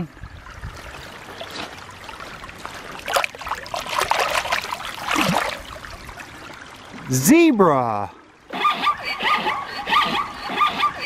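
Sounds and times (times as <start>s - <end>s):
stream water trickling: 0.0s - 11.0s
water splashing: 0.0s - 11.0s.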